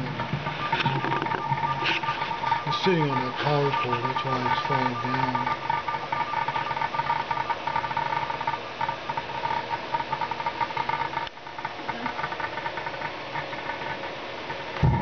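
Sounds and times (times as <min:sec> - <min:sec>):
subwoofer buzzing with pulsing tones: 0:00.0 - 0:15.0.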